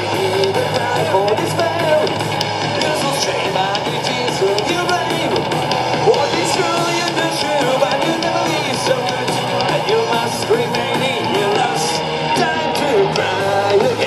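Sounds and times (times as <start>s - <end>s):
bass guitar: 0.0s - 14.0s
distorted electric guitars: 0.0s - 14.0s
drums: 0.0s - 14.0s.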